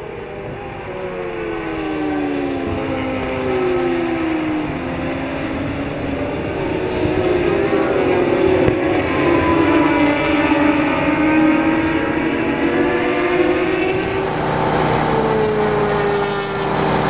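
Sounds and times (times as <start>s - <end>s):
racing motorcycles passing: 0.0s - 17.0s.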